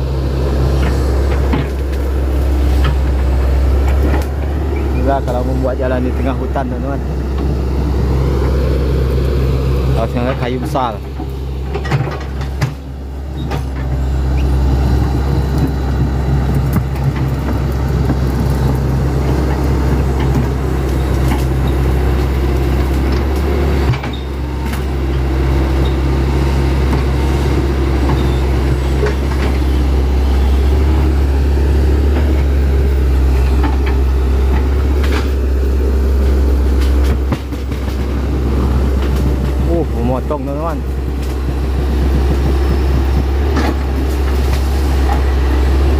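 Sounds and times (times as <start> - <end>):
excavator diesel engine drone: 0.0 - 45.9.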